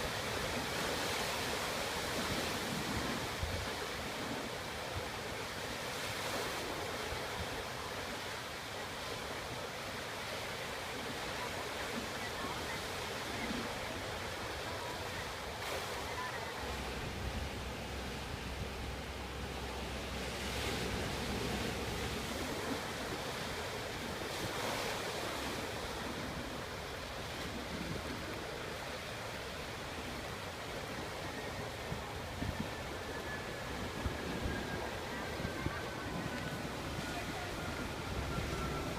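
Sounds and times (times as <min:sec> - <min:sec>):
sea surf washing in: 0:00.0 - 0:38.9.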